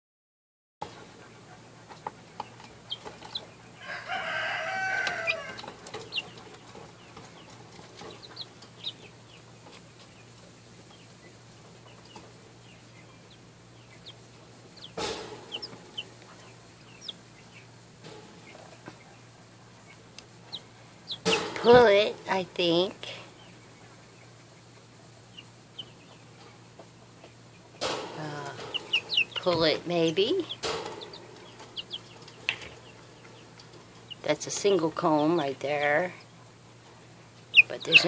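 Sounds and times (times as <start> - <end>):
chicks peeping: 0.8 - 38.0.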